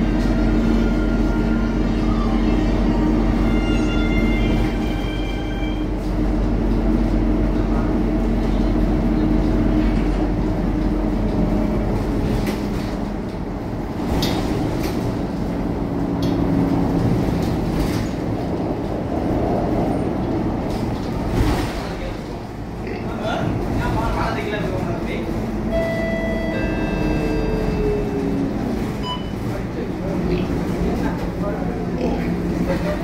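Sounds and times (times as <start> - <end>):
bus engine hum with whine: 0.0 - 33.0.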